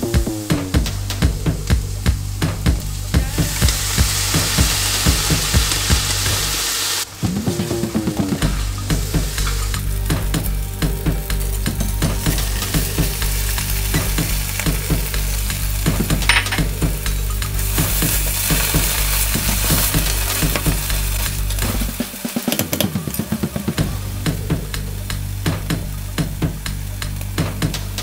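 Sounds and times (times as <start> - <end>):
background music with bass: 0.0 - 28.0
food sizzling in a frying pan: 3.0 - 7.1, 7.9 - 27.4.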